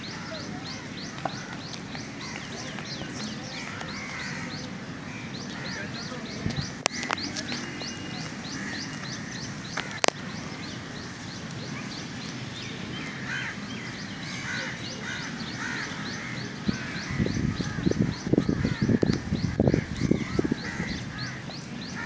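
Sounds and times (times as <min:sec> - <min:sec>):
birds chirping: 0:00.0 - 0:22.0
lower bird calls: 0:00.0 - 0:22.0.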